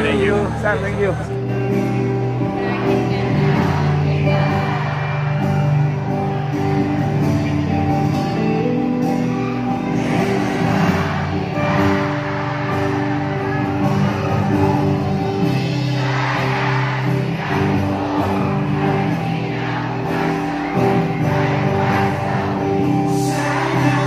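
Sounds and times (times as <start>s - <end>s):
crowd noise: 0.0s - 24.0s
live band with singing: 0.0s - 24.0s.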